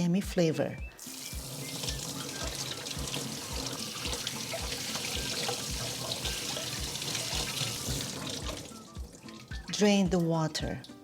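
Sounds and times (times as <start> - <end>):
background music with steady beat: 0.0 - 11.0
tap water running and splashing: 1.0 - 11.0.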